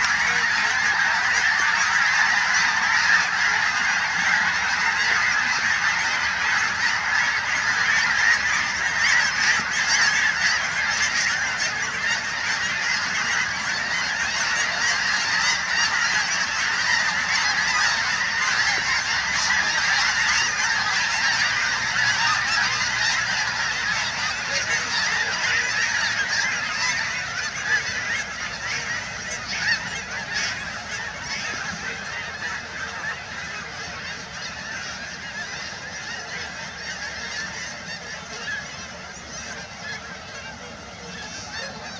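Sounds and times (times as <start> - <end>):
flock of geese honking: 0.0 - 41.9.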